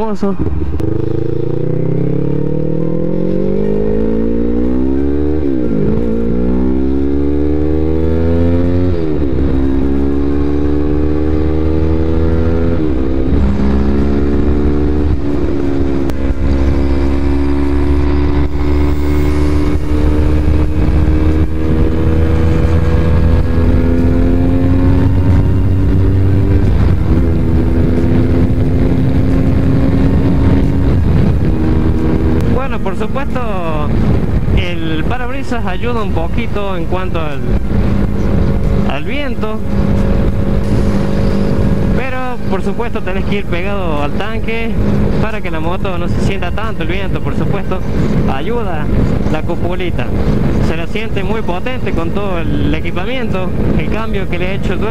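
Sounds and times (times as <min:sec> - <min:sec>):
motorcycle engine revving: 0:00.4 - 0:54.9.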